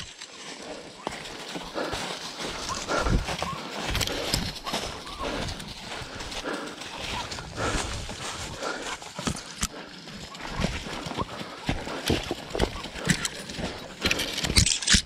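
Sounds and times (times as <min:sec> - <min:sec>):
footsteps crunching on dry leaves: 0:00.0 - 0:14.7
twigs and stones crackling: 0:00.0 - 0:15.0
hard panting breaths: 0:00.5 - 0:15.0.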